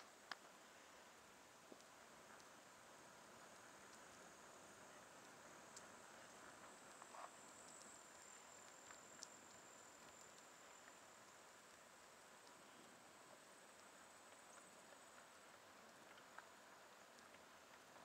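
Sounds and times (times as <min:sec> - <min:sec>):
faint ticks: 0:00.0 - 0:18.0.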